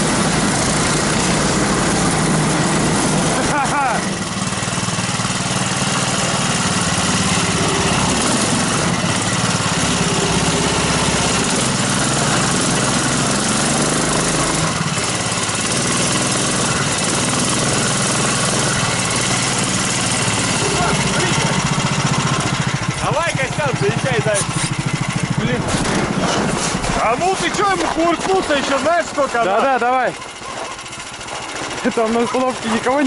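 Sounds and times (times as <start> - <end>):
small petrol engine running: 0.0 - 33.0.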